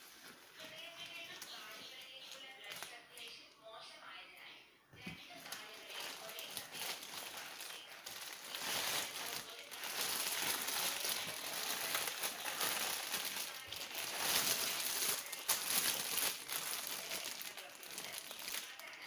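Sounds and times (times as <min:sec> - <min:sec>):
plastic crinkling and rustling: 0:00.0 - 0:03.5, 0:05.0 - 0:19.0.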